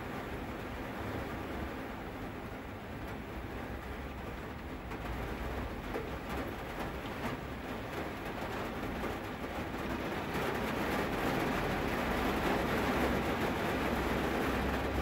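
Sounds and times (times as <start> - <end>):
rain falling on a car: 0.0 - 15.0.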